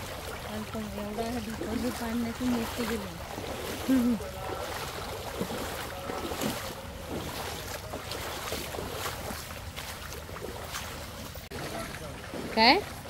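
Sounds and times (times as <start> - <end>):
stream water splashing around feet: 0.0 - 13.0.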